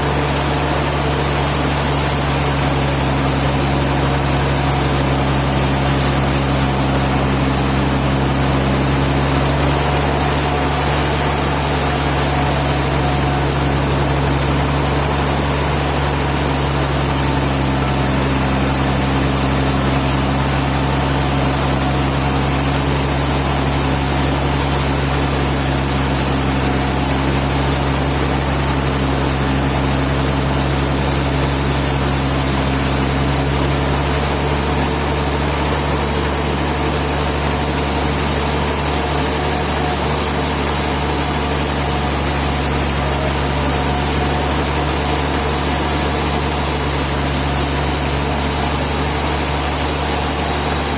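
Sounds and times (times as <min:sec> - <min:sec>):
sawmill machinery humming: 0:00.0 - 0:50.9.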